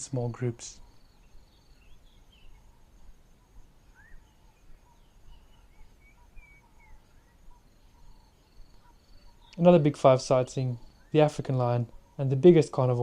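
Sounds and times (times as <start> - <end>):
pulsing insect trill: 0.0 - 13.0.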